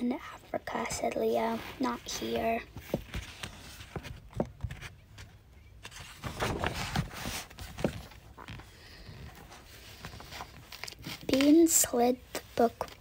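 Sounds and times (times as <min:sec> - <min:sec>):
pages rustling: 0:01.3 - 0:13.0.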